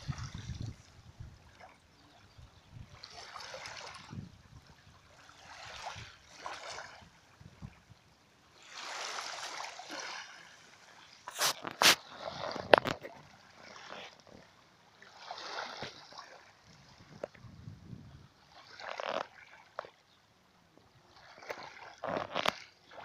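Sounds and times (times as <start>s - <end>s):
small waves lapping: 0.0s - 23.0s.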